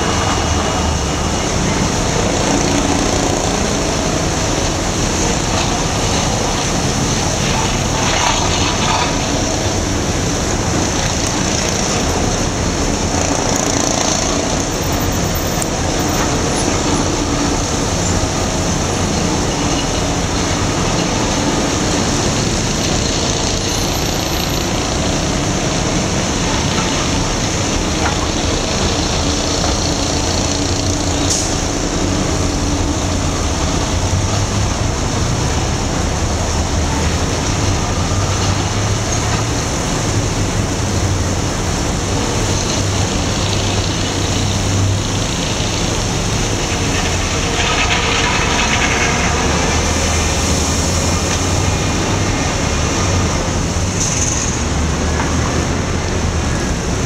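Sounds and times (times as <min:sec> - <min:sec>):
fire engine pump running: 0:00.0 - 0:57.0
hose spray hissing on pavement: 0:00.0 - 0:57.0.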